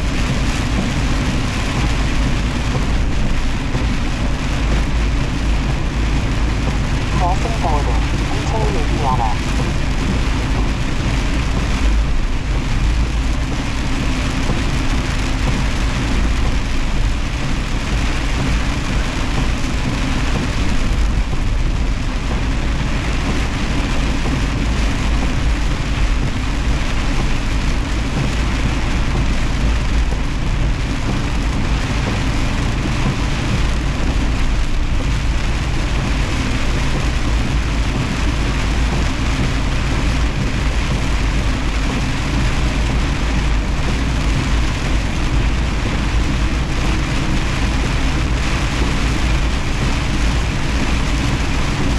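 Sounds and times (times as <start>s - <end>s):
rain hissing: 0.0s - 51.9s
truck engine drone: 0.0s - 51.9s
wet road noise: 0.0s - 51.9s.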